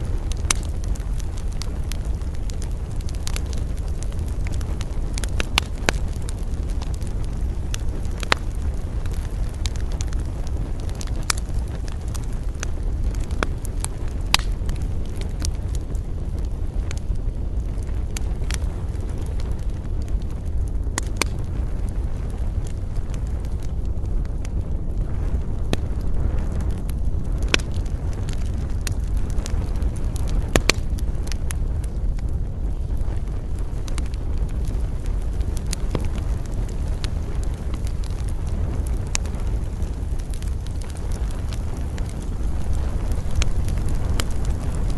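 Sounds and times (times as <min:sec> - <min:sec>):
campfire crackling and popping: 0:00.0 - 0:44.9
flame rushing: 0:00.0 - 0:44.9
steady low rumble: 0:00.0 - 0:44.9.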